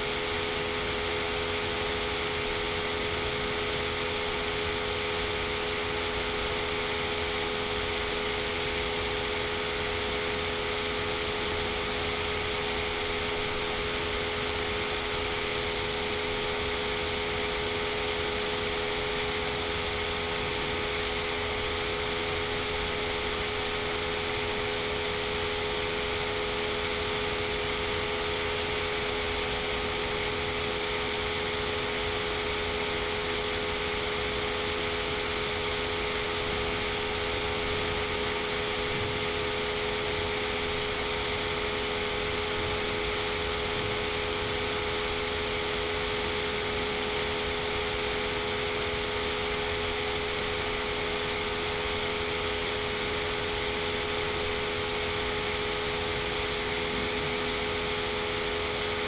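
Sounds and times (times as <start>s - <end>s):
background hum and hiss: 0.0s - 59.0s.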